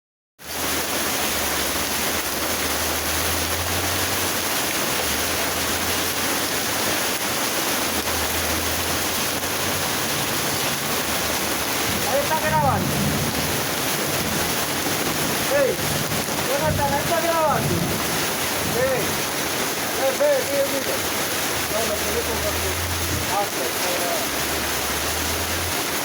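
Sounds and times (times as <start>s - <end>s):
heavy rain and hail: 0.4s - 26.0s.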